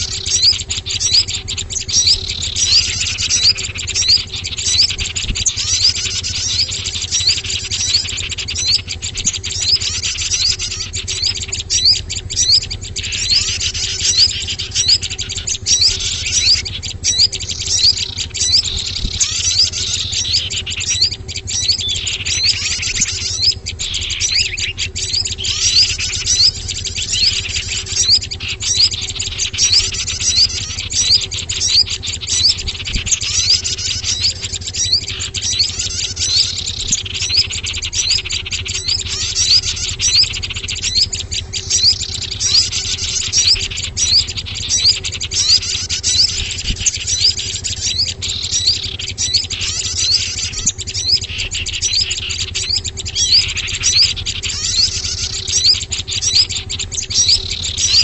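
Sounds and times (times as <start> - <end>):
low steady hum: 0.0 - 58.0
many songbirds chirping: 0.0 - 58.0.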